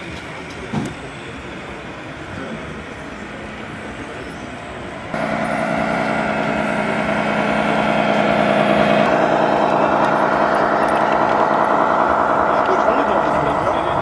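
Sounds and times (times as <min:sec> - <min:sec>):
simulated truck engine drone: 0:00.0 - 0:14.0.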